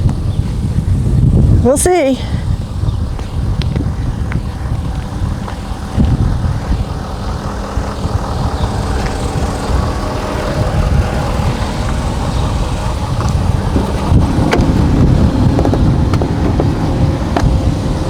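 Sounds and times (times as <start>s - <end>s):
faint steady tones: 0.0s - 18.0s
vehicle engine rumbling: 0.0s - 18.0s.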